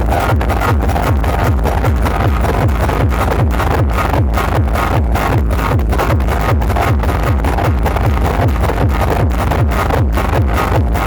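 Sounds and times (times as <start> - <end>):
heavy kick drum: 0.0 - 11.0
loud electronic dance music: 0.0 - 11.0.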